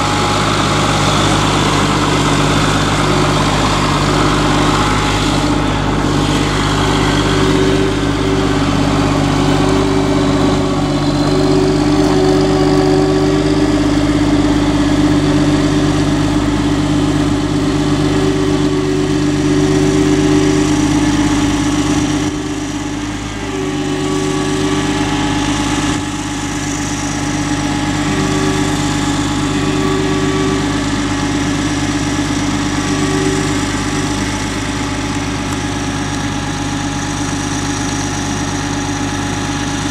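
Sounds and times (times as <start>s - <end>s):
groomer engine running steadily: 0.0s - 39.9s.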